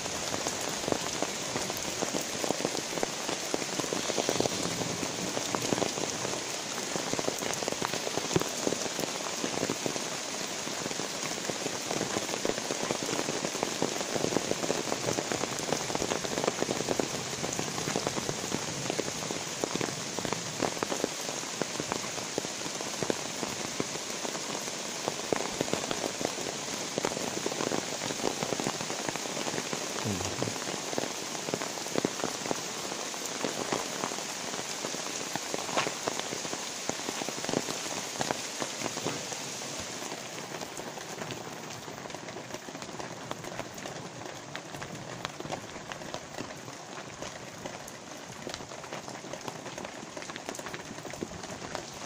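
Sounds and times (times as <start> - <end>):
light rain patter: 0.0 - 52.0
raindrops ticking on surfaces: 0.0 - 52.0.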